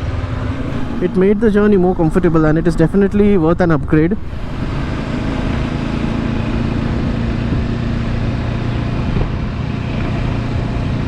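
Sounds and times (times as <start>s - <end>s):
motorcycle engine hum: 0.0s - 11.0s
wind and road noise: 0.0s - 11.0s.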